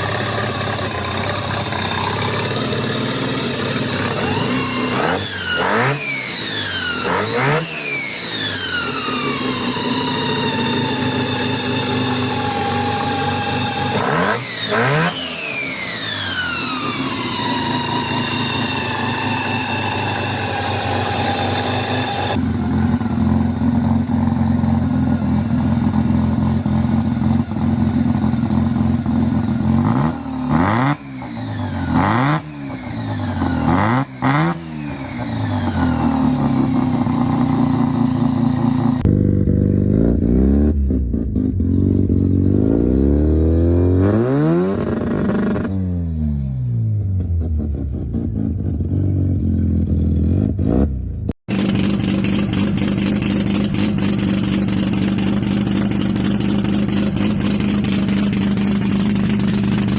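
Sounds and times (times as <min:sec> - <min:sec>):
rotary engine revving: 0:00.0 - 0:22.4, 0:27.6 - 0:45.8, 0:50.2 - 0:59.9.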